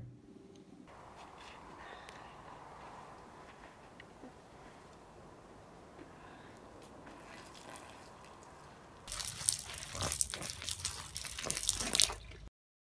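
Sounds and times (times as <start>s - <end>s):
crackling spattering noise: 0.9s - 12.2s.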